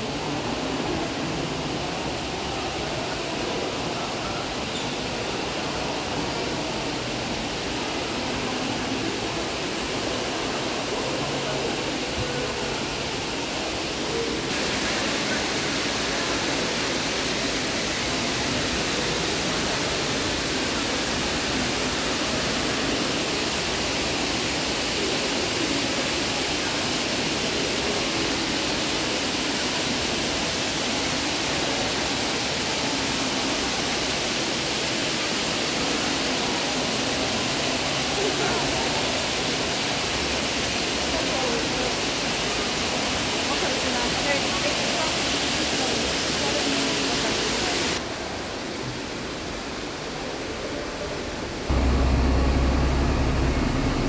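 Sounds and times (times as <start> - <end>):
fountain water rushing: 0.0 - 54.0.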